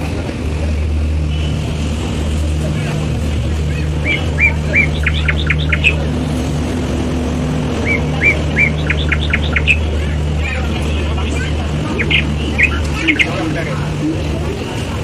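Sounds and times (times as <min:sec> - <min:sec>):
low hum of train: 0:00.0 - 0:15.0
songbird singing: 0:00.7 - 0:14.4.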